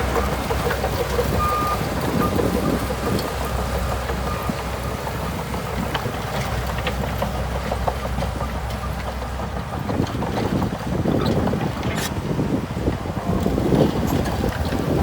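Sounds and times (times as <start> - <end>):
bulldozer diesel engine rumbling: 0.0 - 15.0
wind buffeting microphone: 0.0 - 15.0.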